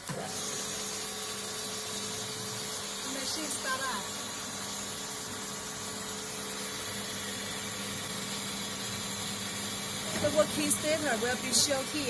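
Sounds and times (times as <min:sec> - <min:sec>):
water treatment pump humming: 0:00.0 - 0:12.0.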